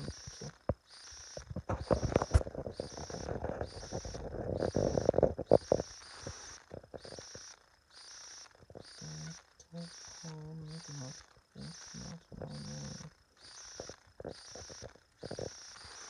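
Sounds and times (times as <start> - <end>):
high insect-like chirping: 0.0 - 16.0.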